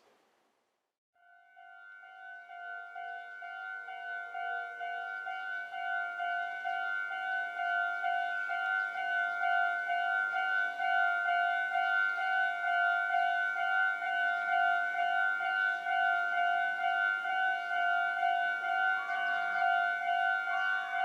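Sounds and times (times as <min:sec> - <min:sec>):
electronic two-tone crossing bell: 0:01.2 - 0:21.0.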